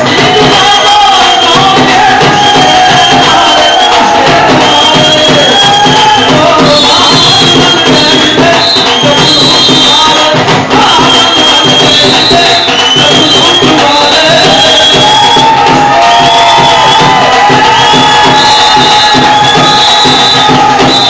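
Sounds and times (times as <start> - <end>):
loud bhangra music: 0.0 - 21.0.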